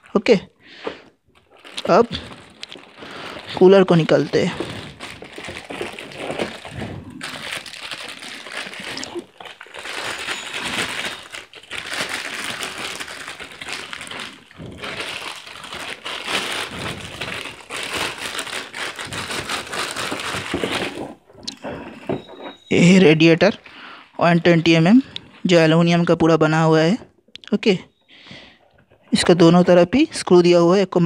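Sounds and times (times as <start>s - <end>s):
plastic packaging crinkling: 0.0s - 25.2s.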